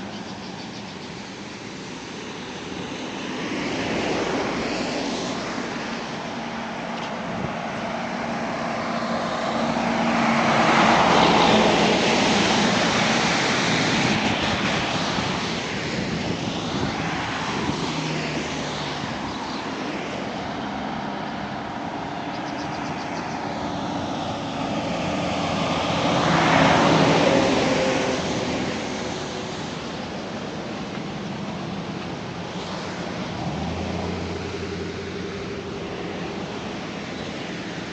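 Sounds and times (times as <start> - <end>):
hum of passing vehicles: 0.0 - 37.9
loud vehicle pass-bys: 0.0 - 37.9.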